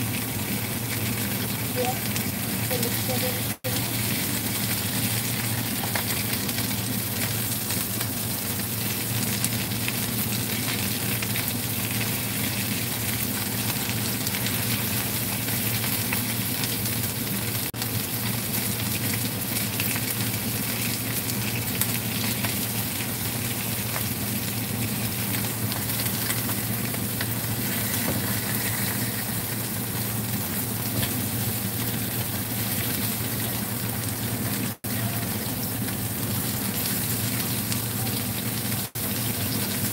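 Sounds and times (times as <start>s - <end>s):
fish sizzling in a pan: 0.0s - 39.9s.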